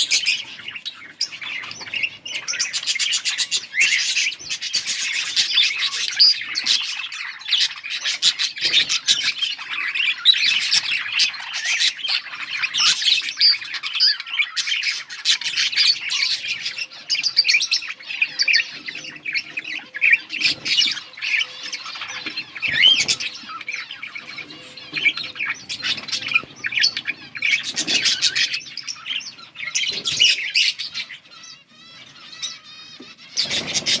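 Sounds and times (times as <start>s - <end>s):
budgerigars chirping and squawking: 0.0s - 34.0s.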